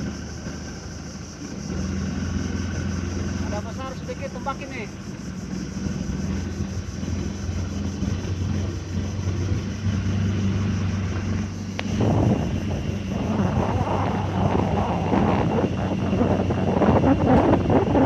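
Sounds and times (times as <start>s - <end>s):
boat engine drone: 0.0s - 18.0s.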